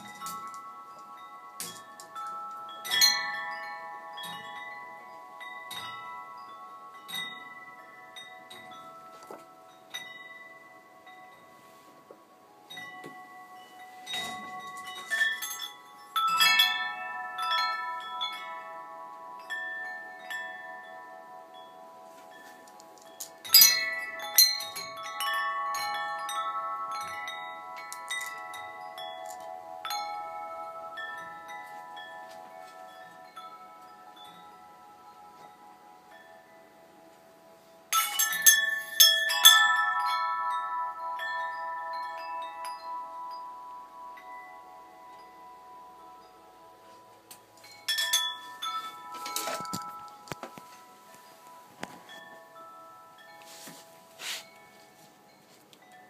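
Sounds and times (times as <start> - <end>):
metal tube wind chimes ringing: 0.0 - 56.0.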